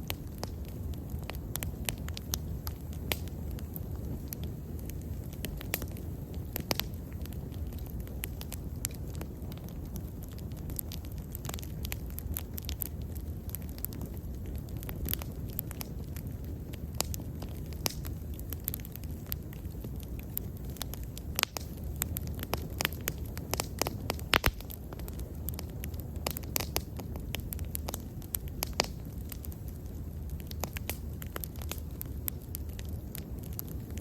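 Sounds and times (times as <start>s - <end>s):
bonfire crackling and popping: 0.0s - 34.0s
low rumble of flames: 0.0s - 34.0s.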